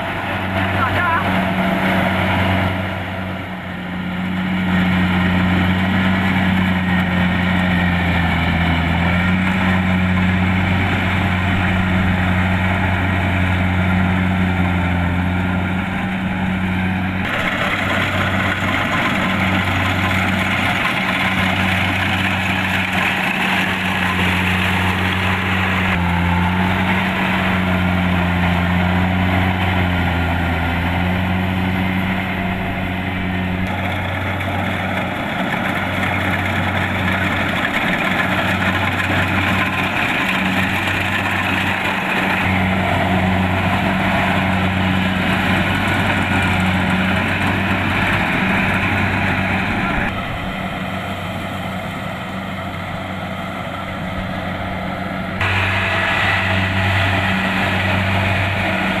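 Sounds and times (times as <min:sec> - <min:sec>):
diesel engine running: 0:00.0 - 0:59.0
harvester threshing machinery: 0:00.0 - 0:59.0.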